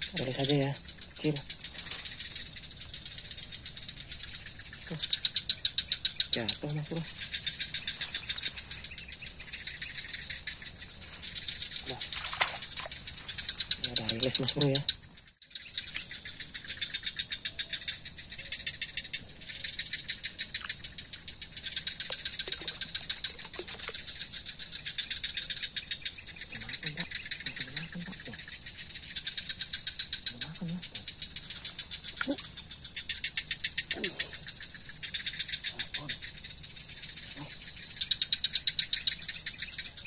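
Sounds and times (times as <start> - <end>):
high-pitched insect chorus: 0.0 - 40.0
insects chirping in pulsed trills: 0.0 - 40.0.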